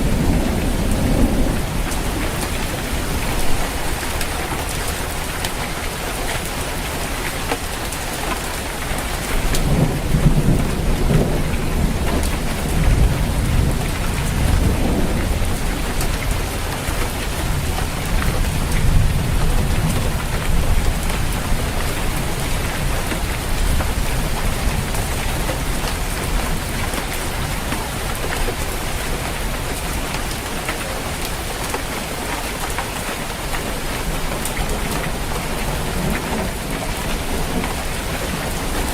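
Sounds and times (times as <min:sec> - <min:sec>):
low rumble of thunder: 0:00.0 - 0:06.0, 0:08.8 - 0:29.6, 0:33.9 - 0:38.9
rain falling on a roof: 0:00.0 - 0:38.9.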